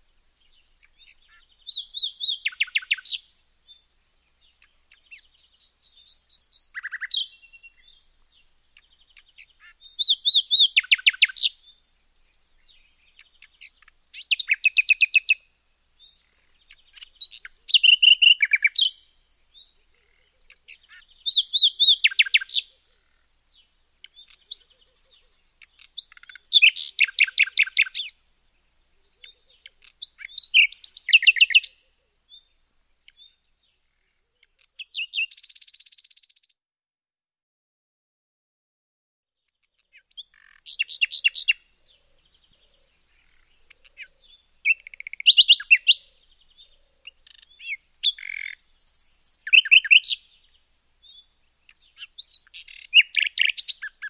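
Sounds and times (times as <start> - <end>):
songbird singing: 0.0 - 36.6, 39.4 - 54.0.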